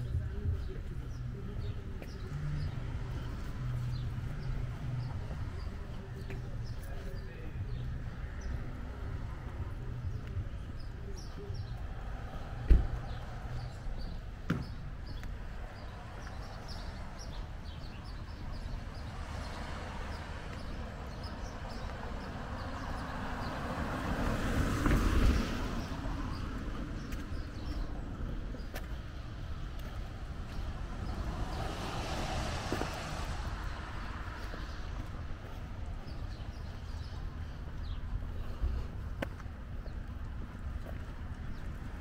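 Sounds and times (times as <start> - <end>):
wet street noise: 0.0 - 42.0.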